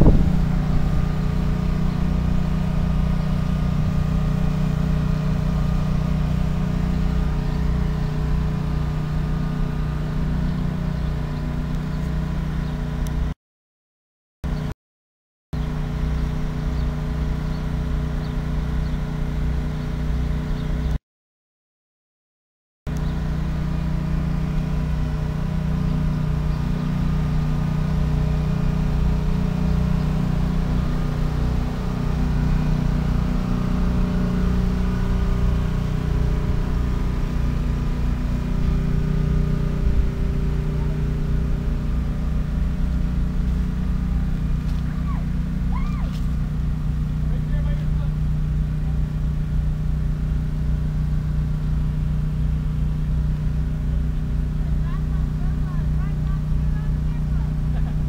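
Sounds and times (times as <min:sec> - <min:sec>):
diesel locomotive engine droning: 0:00.0 - 0:13.3, 0:15.6 - 0:21.0, 0:22.9 - 0:58.0.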